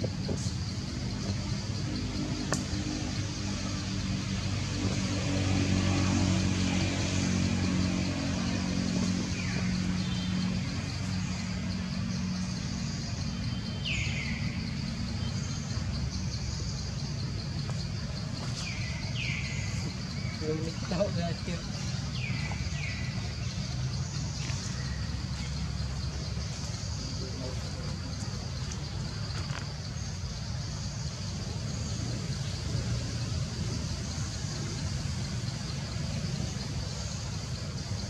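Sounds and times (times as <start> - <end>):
passing vehicle engine hum: 0.0 - 38.0.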